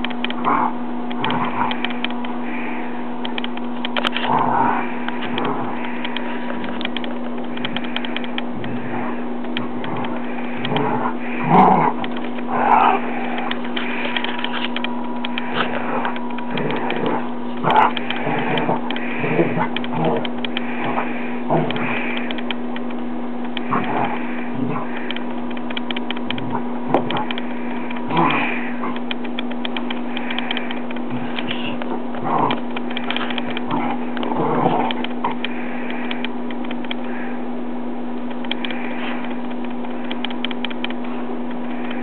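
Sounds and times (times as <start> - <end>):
light clicks: 0.0 - 37.4, 38.1 - 42.0
dogs growling and yipping: 0.0 - 37.5
steady electrical hum: 0.0 - 42.0.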